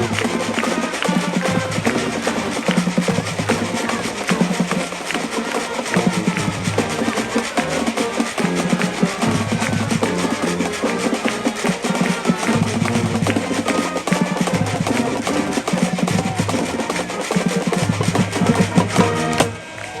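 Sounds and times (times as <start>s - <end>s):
brass holding low notes: 0.0s - 20.0s
drumline snare rolls and bass drum: 0.0s - 20.0s.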